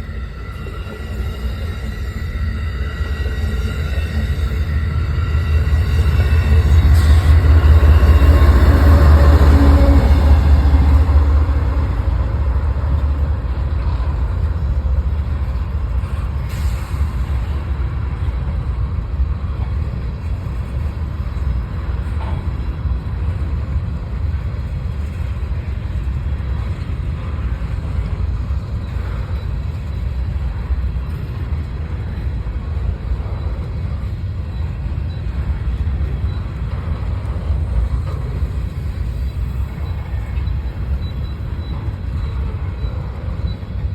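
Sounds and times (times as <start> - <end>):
train rumble: 0.0 - 43.9.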